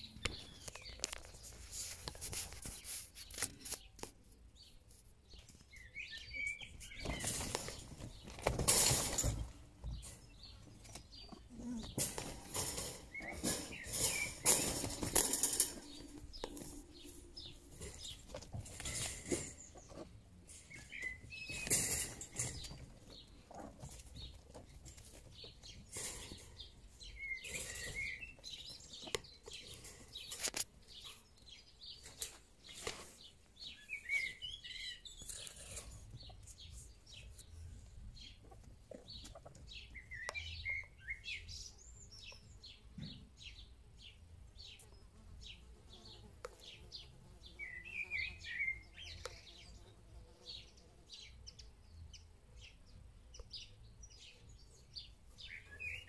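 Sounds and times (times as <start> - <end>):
rabbits scrabbling on dirt and mesh: 0.0 - 56.0
bird chirps: 4.6 - 24.4, 25.4 - 33.0, 33.6 - 56.0.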